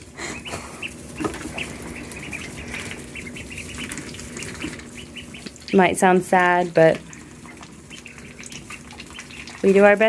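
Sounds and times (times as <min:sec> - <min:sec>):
ducklings peeping: 0:00.0 - 0:10.0
rustling in straw: 0:00.0 - 0:10.0.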